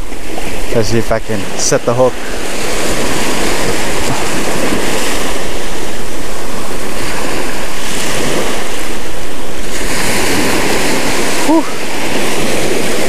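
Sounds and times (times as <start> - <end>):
ocean waves washing on beach: 0.0 - 13.0
wind buffeting microphone: 0.0 - 13.0.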